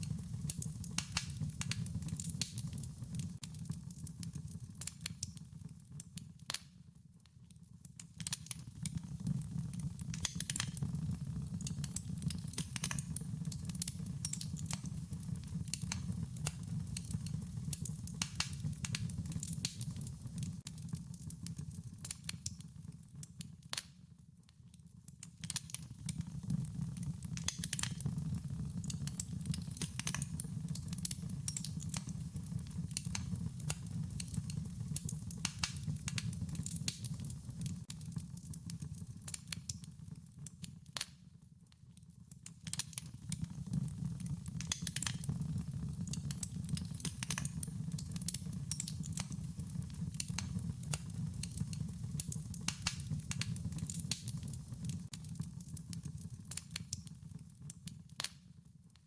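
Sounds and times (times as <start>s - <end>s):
wood fire crackling: 0.0s - 6.8s, 7.6s - 23.9s, 25.0s - 41.2s, 42.2s - 58.5s.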